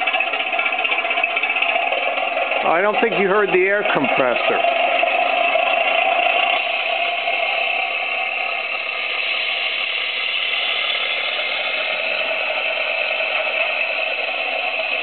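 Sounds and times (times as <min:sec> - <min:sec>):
air compressor whirring hiss: 0:00.0 - 0:15.0.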